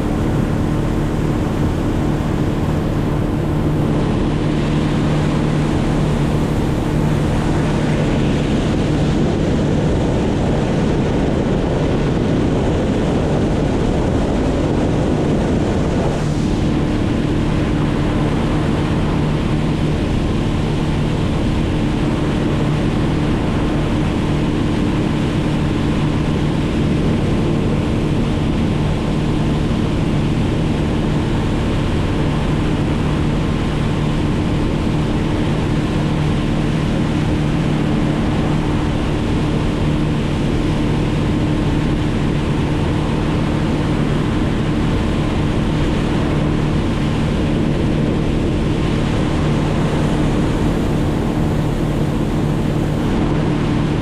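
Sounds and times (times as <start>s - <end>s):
rushing wind or water: 0.0s - 54.0s
small engine droning: 0.0s - 54.0s.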